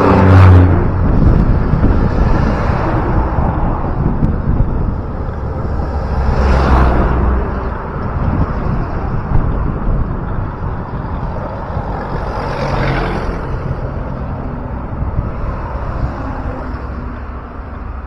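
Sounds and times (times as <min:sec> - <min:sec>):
motor vehicle passing: 0:00.0 - 0:18.0
wind and road rumble: 0:00.0 - 0:18.0.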